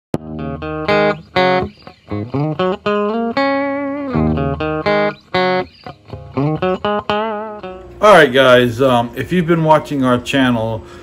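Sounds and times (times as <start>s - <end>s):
plucked guitar melody: 0.2s - 10.7s.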